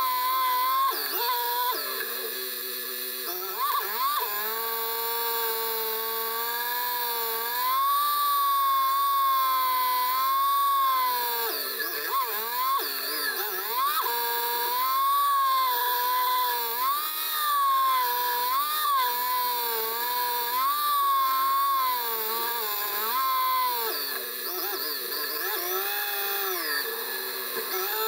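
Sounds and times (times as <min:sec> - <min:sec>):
motorcycle engine whining: 0:00.0 - 0:06.6, 0:11.1 - 0:28.0.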